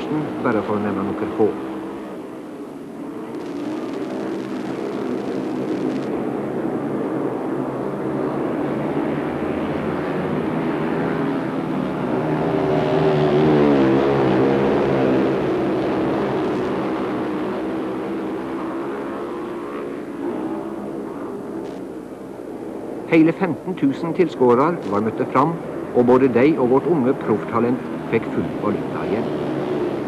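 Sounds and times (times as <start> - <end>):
motorcycles racing: 0.0 - 22.0, 22.6 - 30.0.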